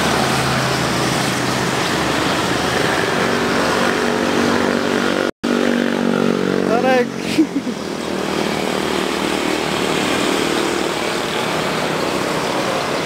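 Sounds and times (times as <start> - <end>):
motorbike and road traffic: 0.0 - 13.0.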